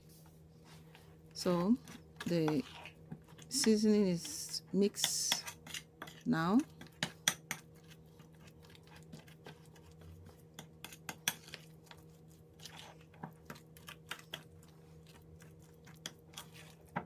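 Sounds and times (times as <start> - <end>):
utensil tapping and scraping bowl: 0.9 - 17.0.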